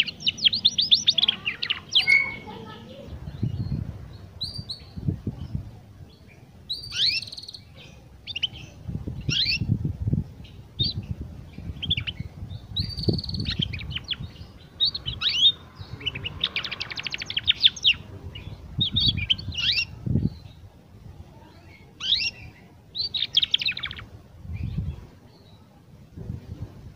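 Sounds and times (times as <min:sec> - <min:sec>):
canary singing: 0:00.0 - 0:05.5, 0:06.1 - 0:09.8, 0:10.4 - 0:20.6, 0:21.4 - 0:24.8.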